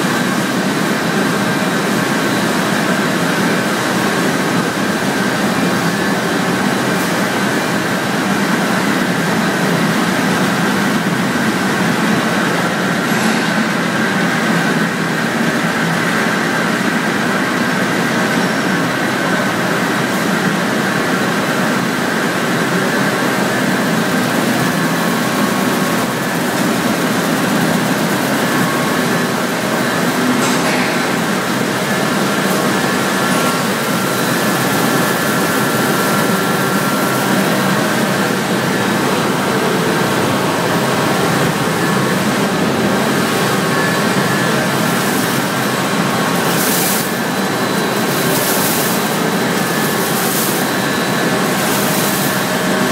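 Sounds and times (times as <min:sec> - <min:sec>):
high machine whine: 0:00.0 - 0:52.9
industrial machinery din: 0:00.0 - 0:52.9.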